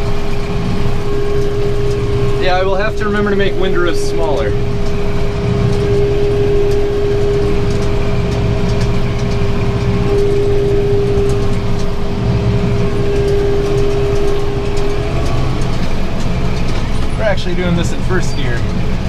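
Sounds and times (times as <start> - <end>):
steady machine whine: 0.0 - 19.0
tractor engine running under load: 0.0 - 19.0.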